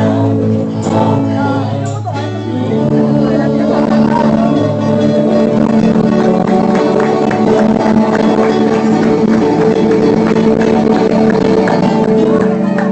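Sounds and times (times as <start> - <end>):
live worship band music: 0.0 - 12.9.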